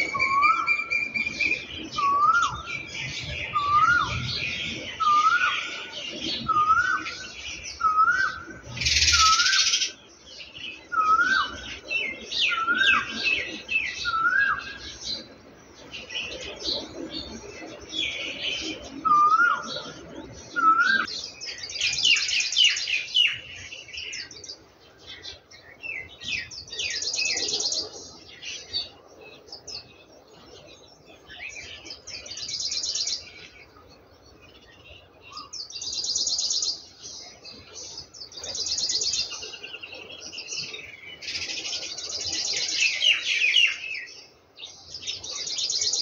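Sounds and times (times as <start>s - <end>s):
small birds twittering: 0.0s - 46.0s.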